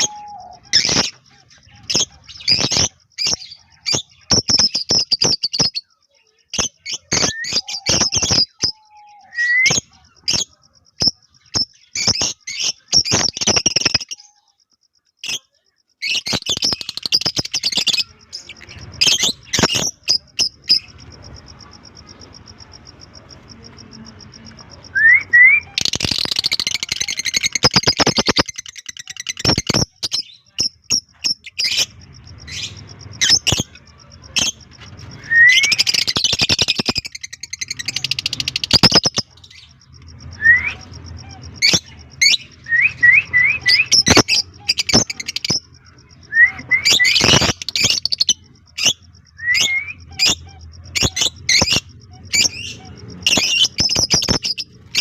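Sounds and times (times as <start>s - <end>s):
lovebirds chirping: 0.0s - 55.0s
rapid bird chatter: 0.0s - 55.0s.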